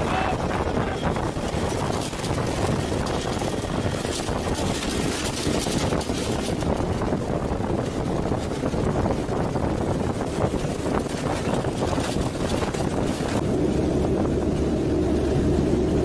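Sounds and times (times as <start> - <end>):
aircraft engines: 0.0 - 16.0.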